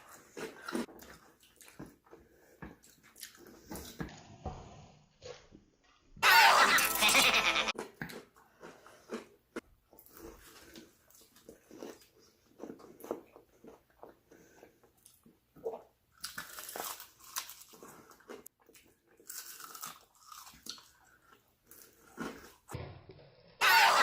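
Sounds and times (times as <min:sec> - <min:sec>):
person chewing food: 0:00.0 - 0:04.2, 0:06.5 - 0:22.9.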